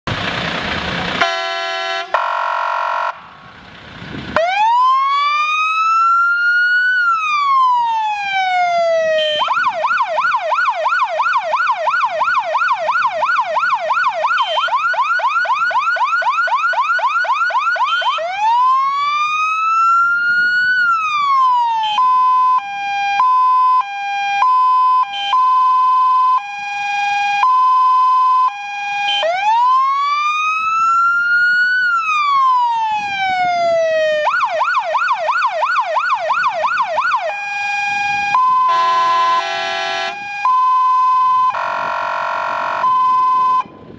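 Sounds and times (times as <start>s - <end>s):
electronic siren cycling tones: 2.1s - 3.2s, 4.4s - 43.7s.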